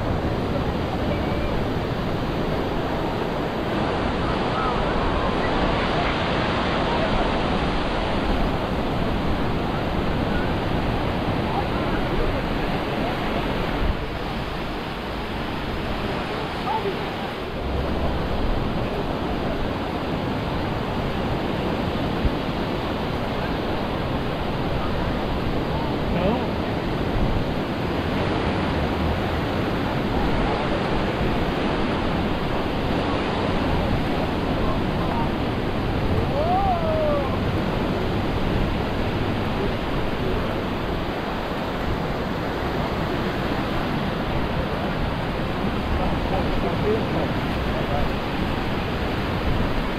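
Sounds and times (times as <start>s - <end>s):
surf washing onto beach: 0.0s - 49.9s
wind gusts on microphone: 0.0s - 49.9s.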